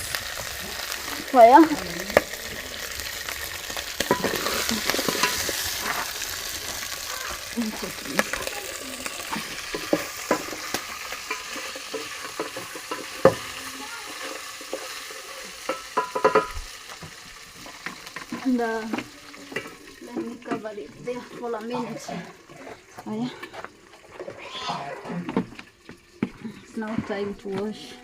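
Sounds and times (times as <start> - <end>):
meat sizzling in oil: 0.0 - 24.7.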